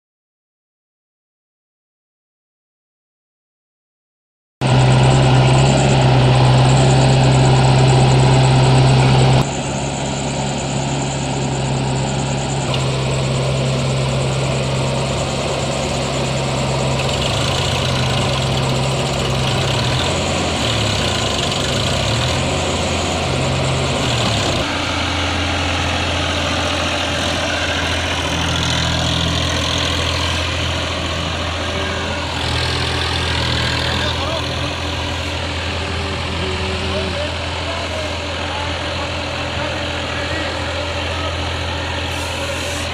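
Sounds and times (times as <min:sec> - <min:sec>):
diesel engines running: 0:04.6 - 0:42.9.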